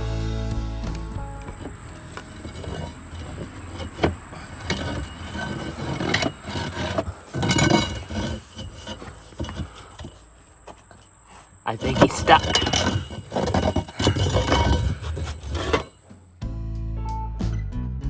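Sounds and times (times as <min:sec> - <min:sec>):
heavy objects knocking and scraping: 0:00.8 - 0:16.2.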